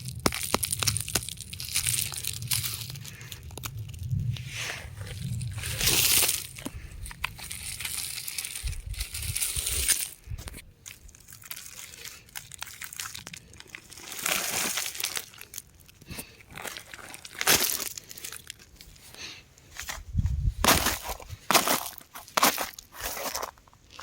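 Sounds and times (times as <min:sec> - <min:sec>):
rock crumbling and crunching: 0:00.0 - 0:19.1, 0:19.7 - 0:24.0.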